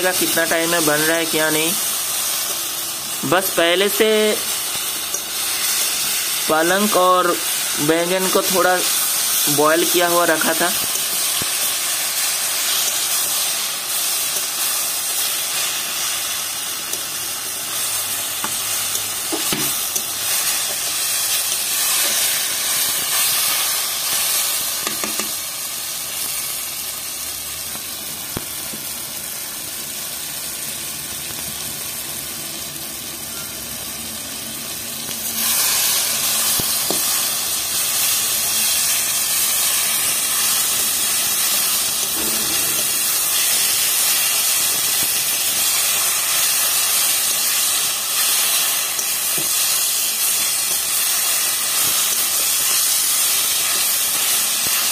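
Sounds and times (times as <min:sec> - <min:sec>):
vegetables sizzling in a pan: 0:00.0 - 0:54.9.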